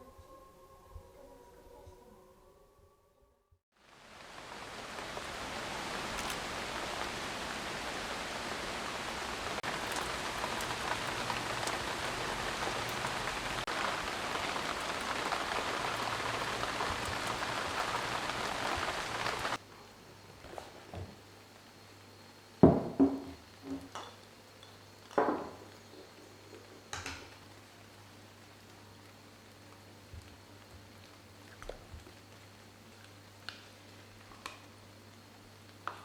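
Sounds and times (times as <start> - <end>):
steady rain falling: 3.7 - 20.3, 21.0 - 36.0.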